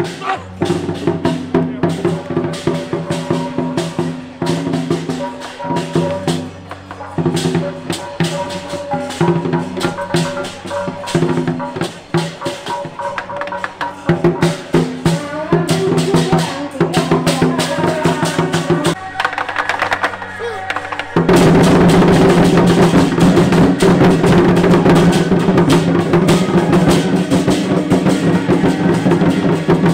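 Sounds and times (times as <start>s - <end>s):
cymbals clashing: 0.0s - 29.9s
fast drumming: 0.0s - 29.9s.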